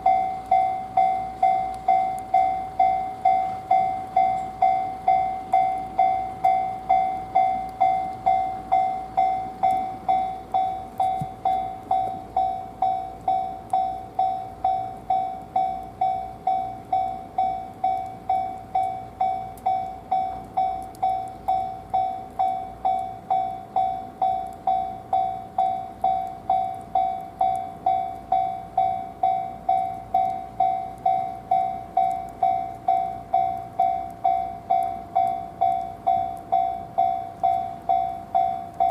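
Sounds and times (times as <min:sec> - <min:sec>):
level crossing warning bell ringing: 0:00.0 - 0:38.9.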